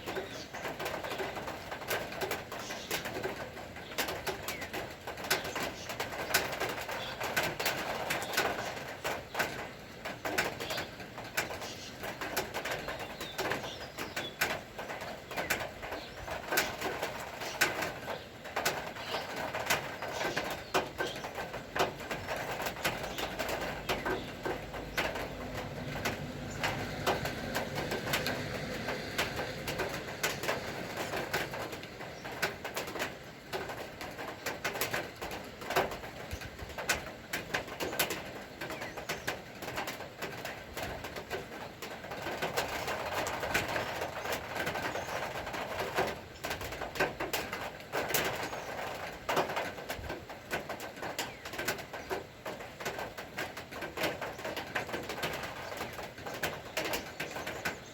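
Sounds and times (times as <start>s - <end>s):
birds calling: 0.0s - 40.6s, 41.2s - 49.7s, 54.0s - 57.9s
rain drops tapping: 0.0s - 57.9s.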